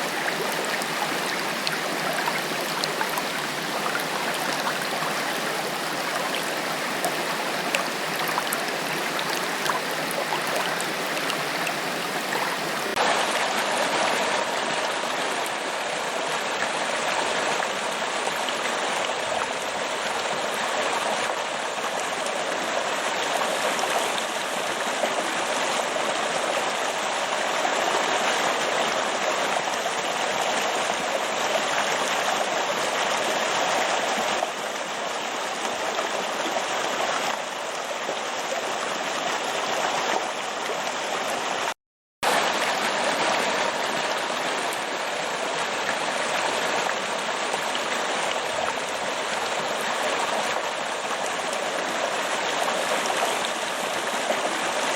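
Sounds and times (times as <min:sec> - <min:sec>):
water cascading over rocks: 0:00.0 - 0:54.9.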